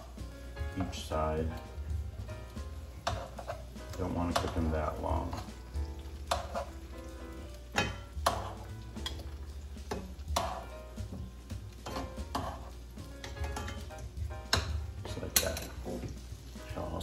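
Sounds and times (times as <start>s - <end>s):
tomato slices sizzling in oil: 0.0s - 17.0s
tongs clicking and scraping pan: 0.7s - 16.2s.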